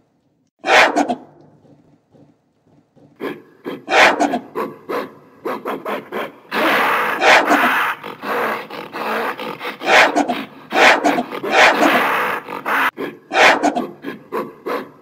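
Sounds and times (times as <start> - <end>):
gorilla grunting and growling: 0.6 - 15.0.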